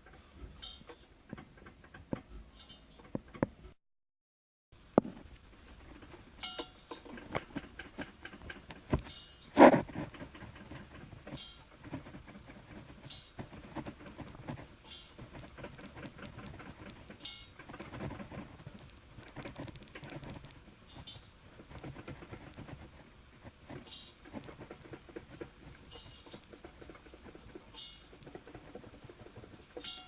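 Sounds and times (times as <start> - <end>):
engine fan metallic clatter: 5.4 - 30.0.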